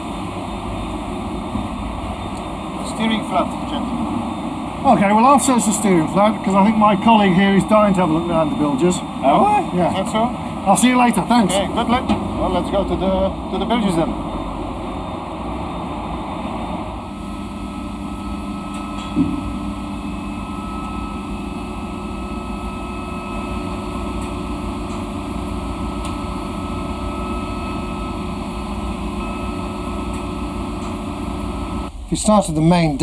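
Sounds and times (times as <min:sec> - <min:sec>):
faint whining tones: 0:00.0 - 0:32.4
ship machinery drone: 0:00.0 - 0:33.0.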